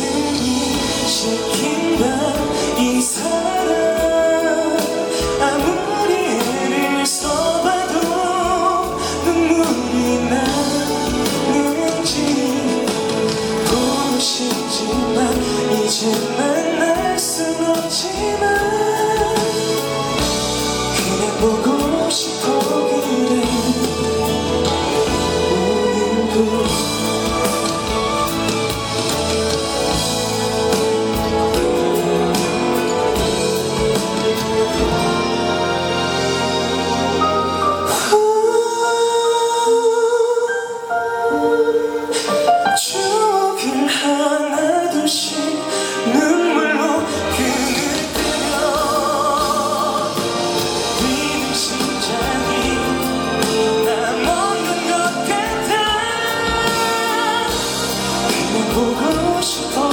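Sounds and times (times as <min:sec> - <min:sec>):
instrumental backing: 0:00.0 - 0:59.9
person singing: 0:00.0 - 0:59.9.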